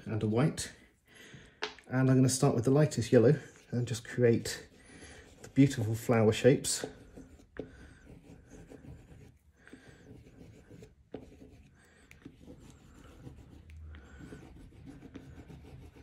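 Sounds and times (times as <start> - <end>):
crayon scratching on paper: 3.1 - 16.0.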